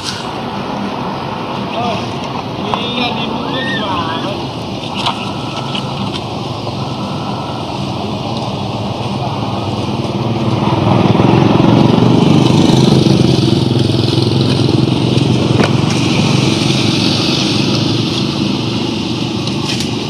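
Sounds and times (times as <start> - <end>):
vehicle engine passing: 0.0 - 20.0.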